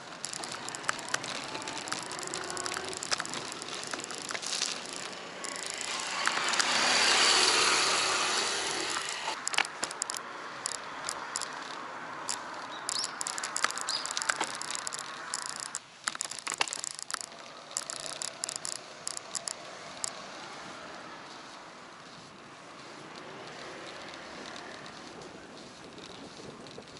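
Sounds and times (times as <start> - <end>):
bicycle clicks and rattles: 0.0 - 20.7, 22.1 - 26.9.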